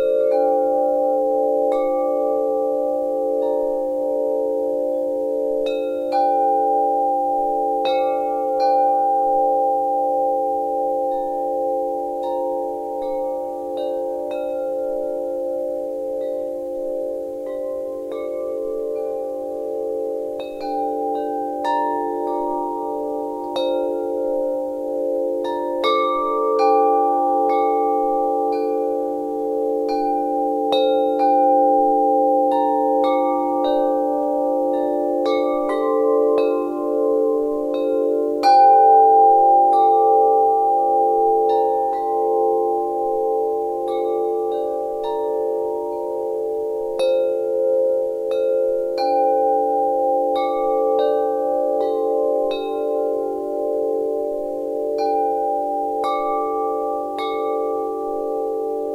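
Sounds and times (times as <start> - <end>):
wind chimes ringing: 0.0 - 58.9.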